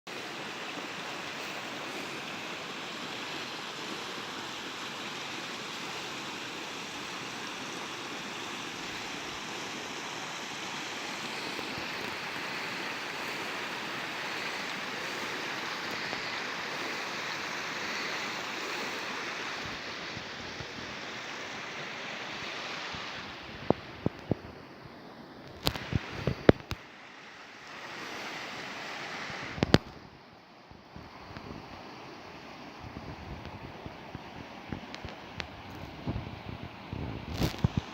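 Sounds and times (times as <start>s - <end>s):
water rushing: 0.1s - 37.9s.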